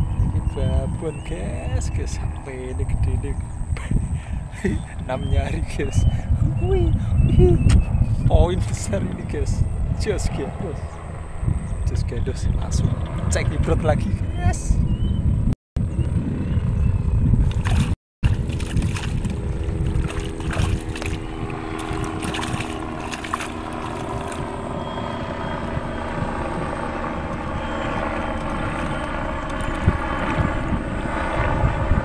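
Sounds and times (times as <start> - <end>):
faint distant engine hum: 0.0 - 32.0
wind rumbling on microphone: 0.0 - 32.0.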